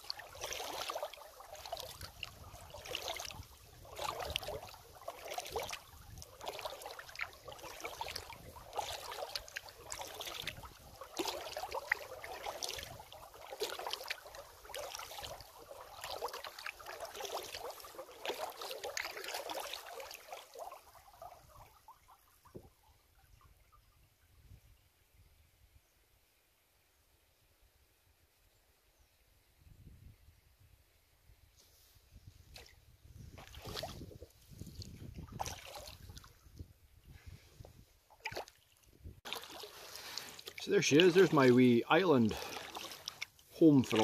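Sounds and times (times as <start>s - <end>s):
kayak paddle splashing: 0.0s - 23.6s, 31.7s - 44.0s.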